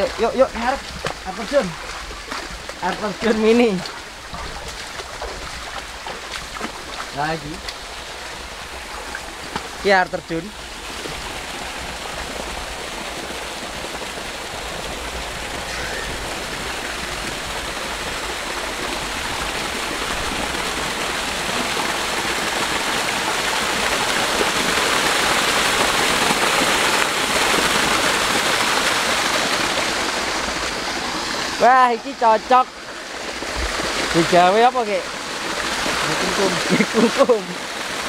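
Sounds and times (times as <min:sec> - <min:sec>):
waterfall splashing into a pool: 0:00.0 - 0:38.0.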